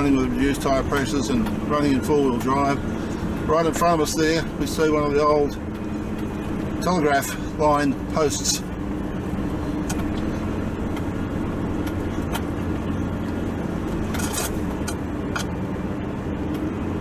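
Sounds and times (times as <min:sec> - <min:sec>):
engine and tyre drone: 0:00.0 - 0:17.0.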